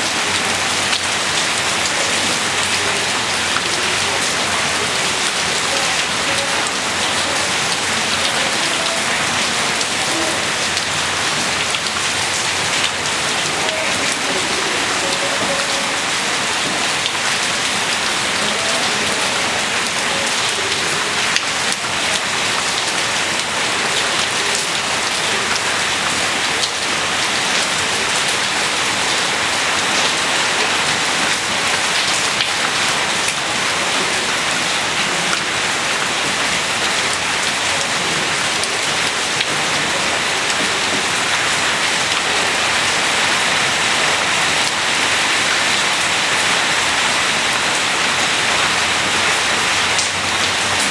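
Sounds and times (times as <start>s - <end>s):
steady rain on hard surfaces: 0.0s - 50.9s.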